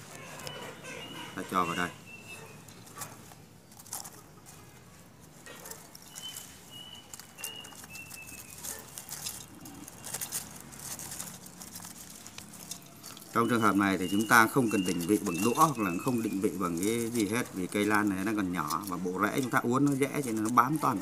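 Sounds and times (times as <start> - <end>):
bird chirping: 0.0 - 4.5, 5.5 - 21.0
bark chunks clicking and rustling: 0.0 - 21.0.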